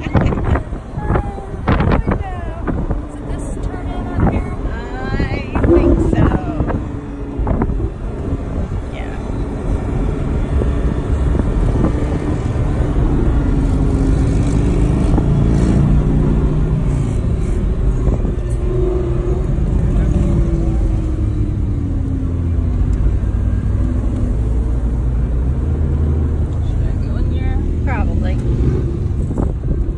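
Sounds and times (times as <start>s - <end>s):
car engine running: 0.0s - 29.9s
road rumble: 0.0s - 29.9s.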